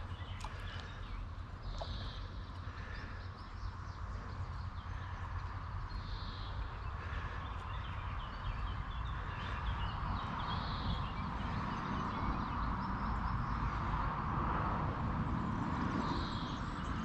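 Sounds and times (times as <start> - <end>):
birds calling: 0.0 - 14.2
low steady rumble: 0.0 - 17.0.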